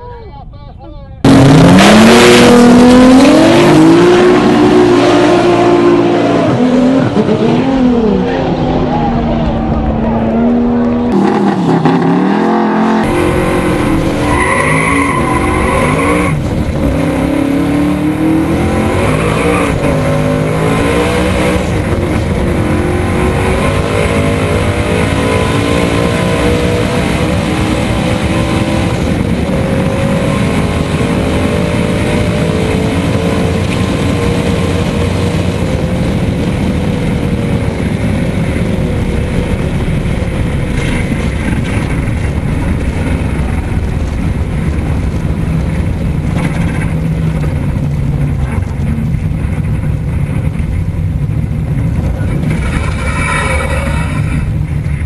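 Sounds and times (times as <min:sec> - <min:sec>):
race car engine revving: 0:01.2 - 0:55.0.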